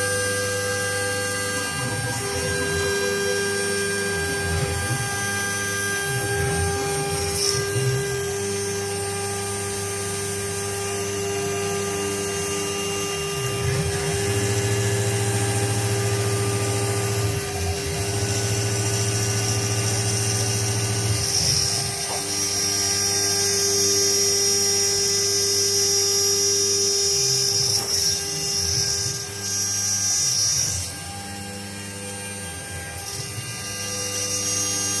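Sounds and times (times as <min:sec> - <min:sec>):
electric motor whining: 0:00.0 - 0:35.0
high-pitched whine: 0:00.0 - 0:35.0.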